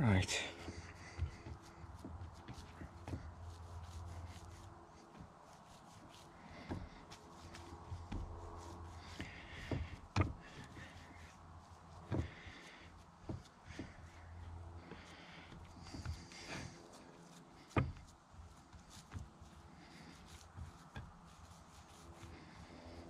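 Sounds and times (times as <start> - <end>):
hands pressing minced meat: 0.6 - 23.0.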